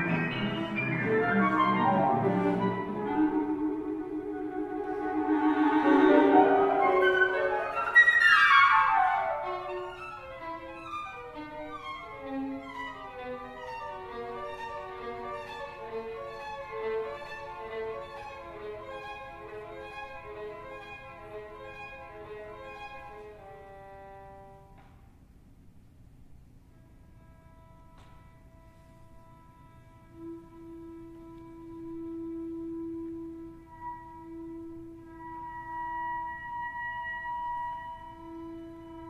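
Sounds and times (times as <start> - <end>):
cello bowing: 0.0 - 24.9, 26.7 - 39.0
violin bowing: 0.0 - 24.9, 26.7 - 39.0.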